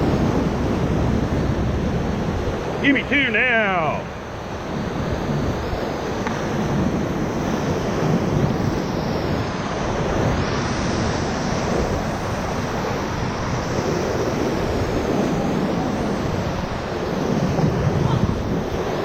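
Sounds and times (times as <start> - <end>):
whitewater rapids rushing: 0.0 - 19.0.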